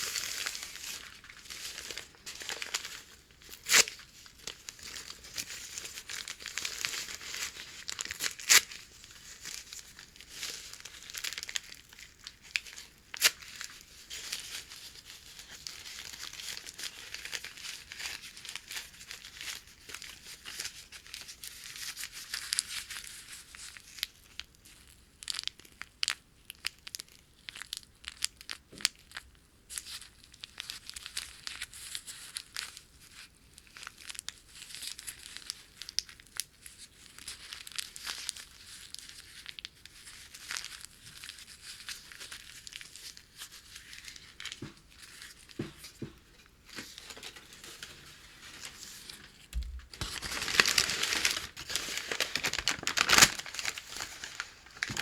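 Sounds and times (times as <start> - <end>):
paper crinkling and tearing: 0.0 - 24.1, 30.5 - 55.0.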